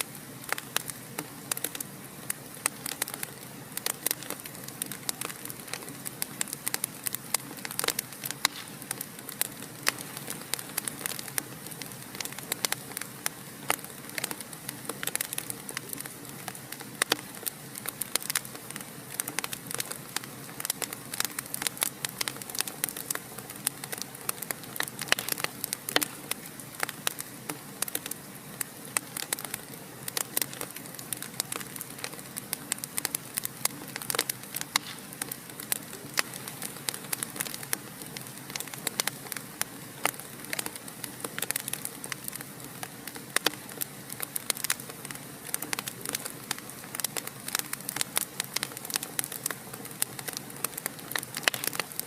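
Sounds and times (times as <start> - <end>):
hiss of burning: 0.0 - 52.0
wood fire crackling and popping: 0.0 - 52.0.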